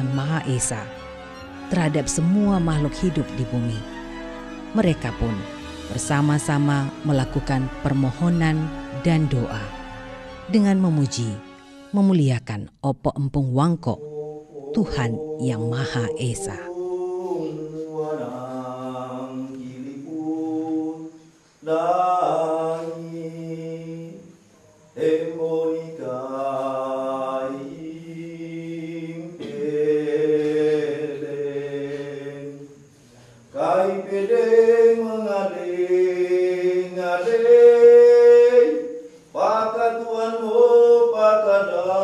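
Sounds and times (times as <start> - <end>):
person chanting a prayer: 0.0 - 1.0, 1.7 - 11.4, 13.9 - 24.3, 25.0 - 42.0.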